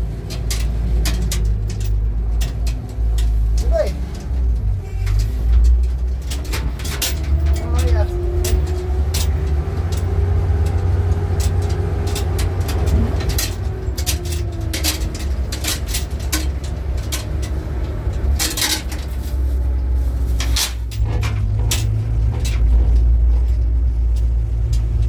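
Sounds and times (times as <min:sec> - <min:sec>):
engine low rumble: 0:00.0 - 0:25.0
sharp clicks and knocks: 0:00.0 - 0:25.0.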